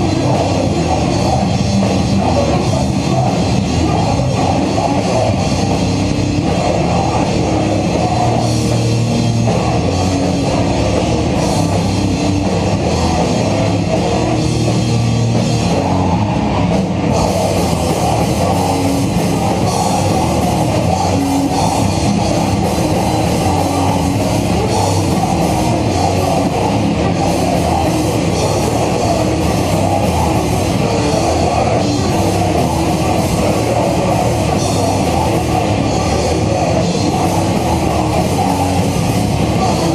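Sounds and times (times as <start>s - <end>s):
distorted electric guitars: 0.0s - 39.9s
pounding drum kit: 0.0s - 39.9s.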